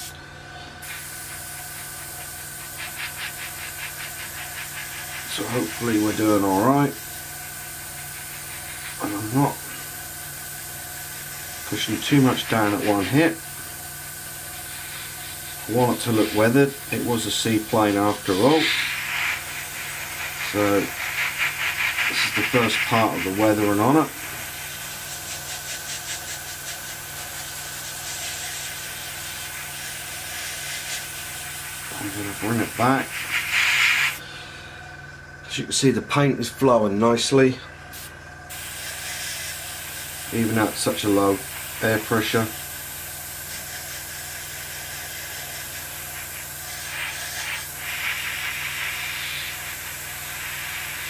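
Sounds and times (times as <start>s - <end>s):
steady low hum: 0.0s - 51.0s
airbrush hissing: 0.8s - 34.4s, 37.9s - 51.0s.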